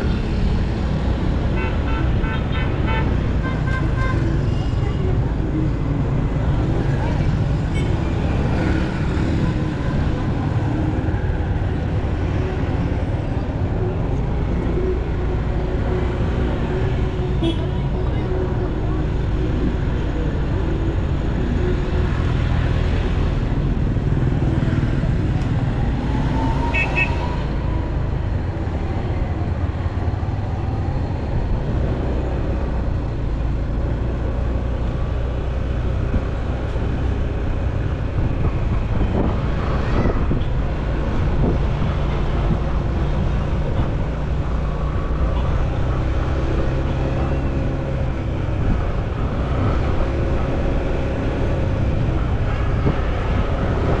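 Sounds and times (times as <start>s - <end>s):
road noise: 0.0s - 54.0s
street traffic: 0.0s - 54.0s.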